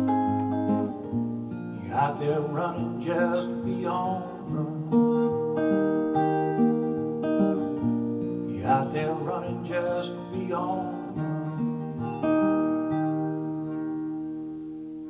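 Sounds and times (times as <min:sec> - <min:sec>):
acoustic guitar strumming: 0:00.0 - 0:15.0
wavering guitar melody: 0:00.0 - 0:15.0.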